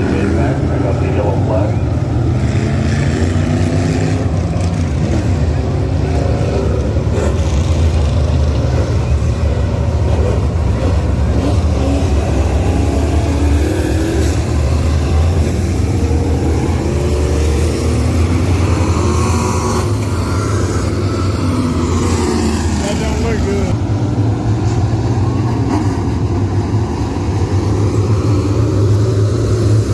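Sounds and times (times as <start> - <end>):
race car engines revving: 0.0 - 29.9.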